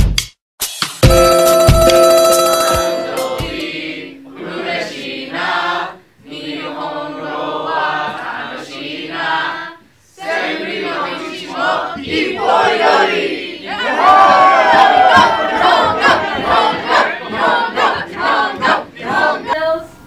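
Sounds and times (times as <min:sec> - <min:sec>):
group of students singing: 0:02.8 - 0:19.8.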